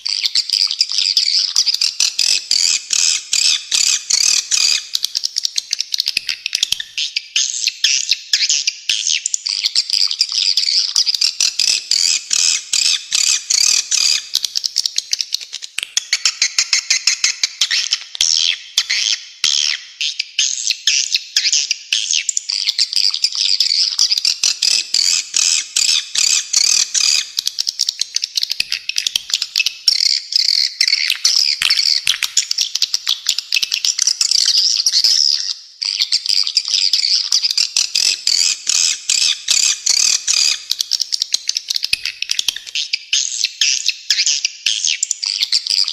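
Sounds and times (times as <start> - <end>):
swiftlets chirping and clicking: 0.0 - 7.3, 9.2 - 18.3, 24.0 - 45.9.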